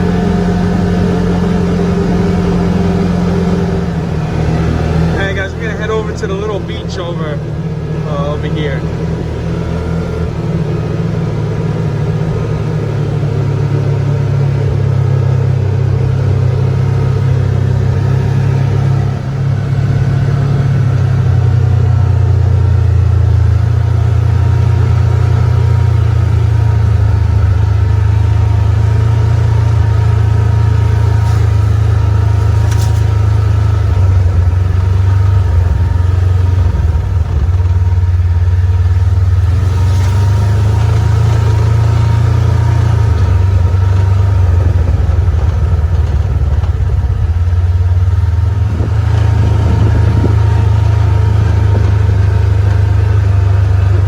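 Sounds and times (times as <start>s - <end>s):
vehicle engine low drone: 0.0s - 54.0s.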